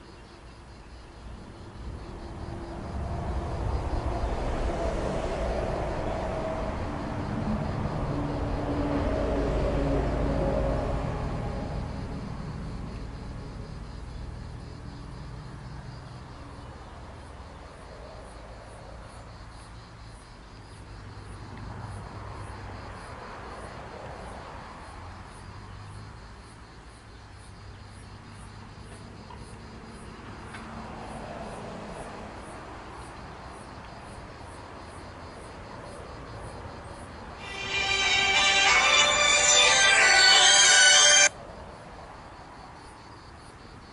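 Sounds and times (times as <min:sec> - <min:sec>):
insects chirping: 0:00.0 - 0:09.6, 0:11.0 - 0:30.4, 0:32.4 - 0:38.2, 0:39.6 - 0:43.9.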